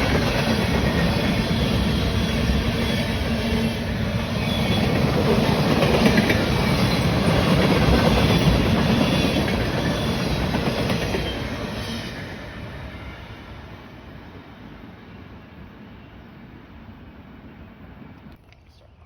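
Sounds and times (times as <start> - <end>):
train wheels rumbling on rail: 0.0 - 16.1.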